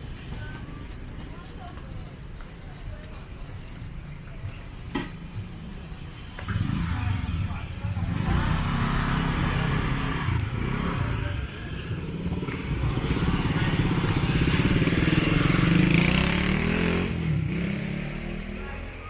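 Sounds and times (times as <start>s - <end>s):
motorbike engines running: 0.0s - 19.0s.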